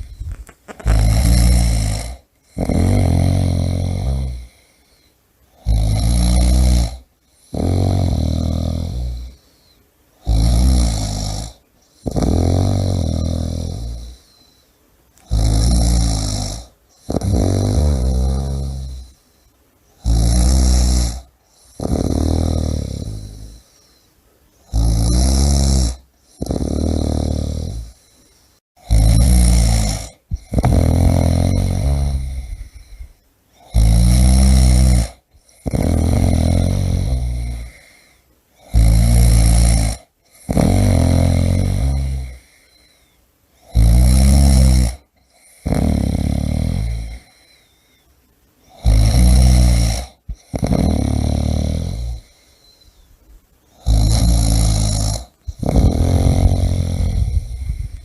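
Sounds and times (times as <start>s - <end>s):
person snoring: 0.0s - 14.6s, 15.2s - 19.3s, 20.0s - 24.0s, 24.6s - 47.7s, 48.7s - 53.1s, 53.7s - 58.0s.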